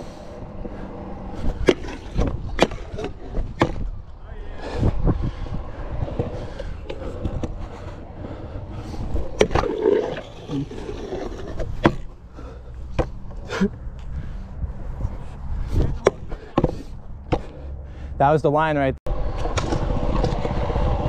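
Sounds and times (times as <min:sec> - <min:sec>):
scooter wheels rolling on concrete: 0:00.0 - 0:17.6, 0:19.1 - 0:21.0.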